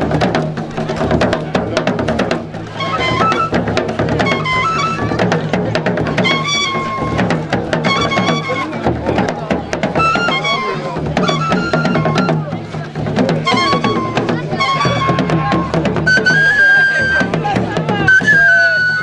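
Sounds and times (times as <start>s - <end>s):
fast drumming and percussion: 0.0s - 19.0s.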